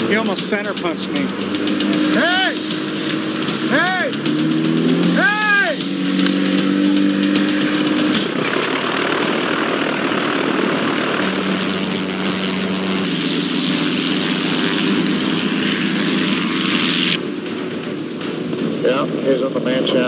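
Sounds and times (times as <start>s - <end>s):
floatplane engine and propeller drone: 0.0s - 20.0s.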